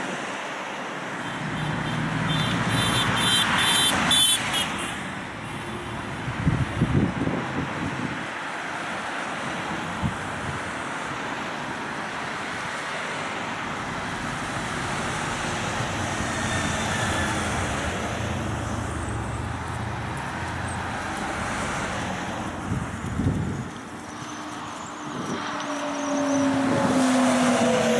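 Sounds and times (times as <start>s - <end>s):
vehicles driving past: 0.0s - 27.9s.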